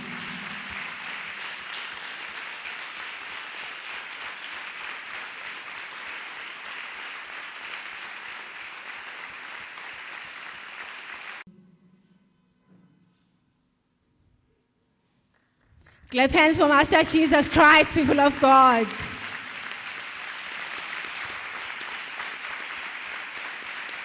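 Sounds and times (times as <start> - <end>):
congregation applauding: 0.0 - 11.4, 15.9 - 24.0.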